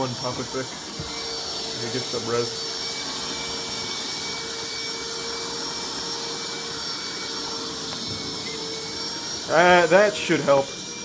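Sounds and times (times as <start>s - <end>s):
water spraying from burst pipe: 0.0s - 11.0s.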